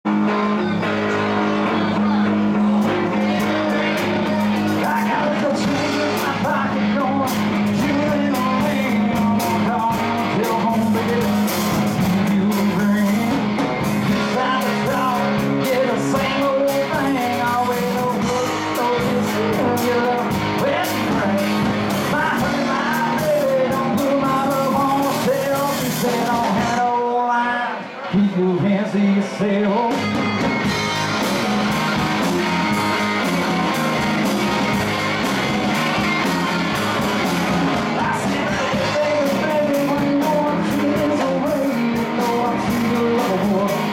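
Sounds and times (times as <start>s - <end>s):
rock band playing: 0.0s - 43.9s
man singing: 0.1s - 30.4s, 35.5s - 43.9s.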